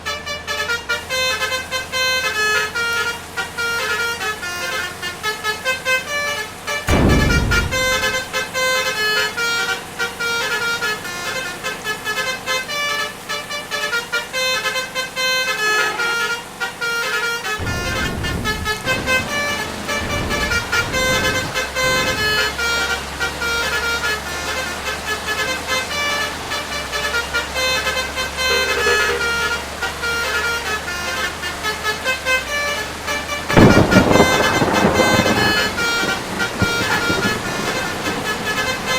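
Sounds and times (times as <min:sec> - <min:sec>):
deep engine rumble: 0:00.0 - 0:38.9
musical vehicle horn: 0:00.0 - 0:38.9.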